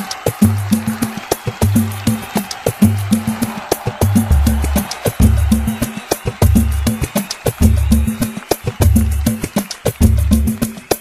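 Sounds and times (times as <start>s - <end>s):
samba percussion: 0.0s - 11.0s.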